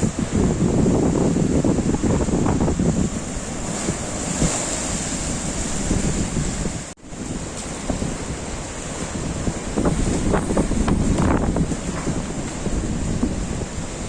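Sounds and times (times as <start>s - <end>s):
rough sea surging: 0.0s - 14.0s
wind buffeting microphone: 0.0s - 14.0s.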